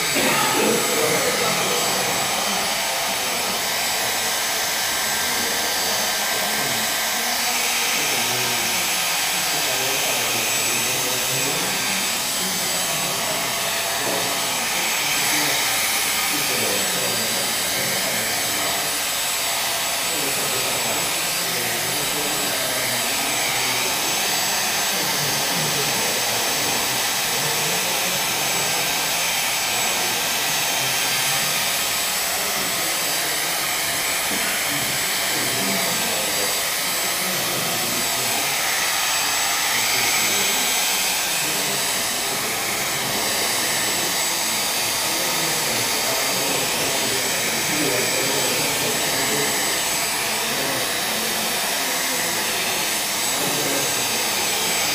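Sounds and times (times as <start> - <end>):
hair dryer blowing: 0.0 - 54.9.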